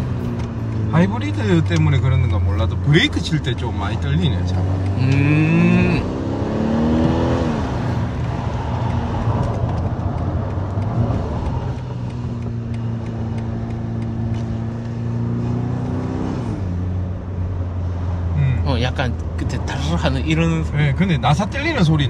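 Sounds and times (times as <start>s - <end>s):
light rattle under braking: 0.0s - 6.0s, 6.9s - 22.0s
road and wind noise: 0.0s - 22.0s
steady car hum: 0.0s - 22.0s.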